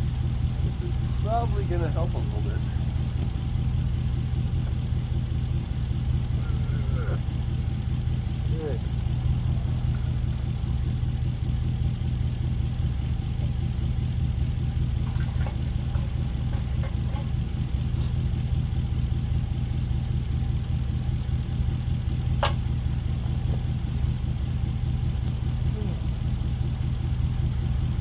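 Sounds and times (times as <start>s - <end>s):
small engine idling: 0.0s - 28.0s.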